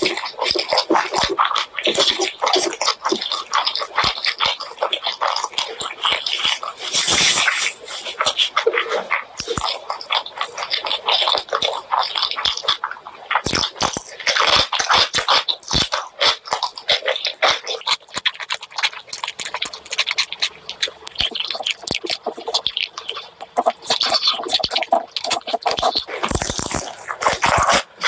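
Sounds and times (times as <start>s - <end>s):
wet chewing and lip-smacking: 0.0s - 28.0s.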